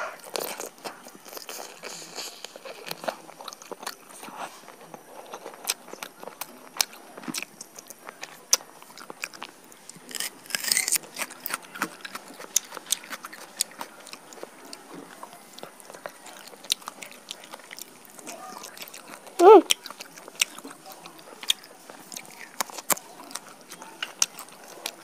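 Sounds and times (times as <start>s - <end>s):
chewing chicken: 0.0s - 25.0s.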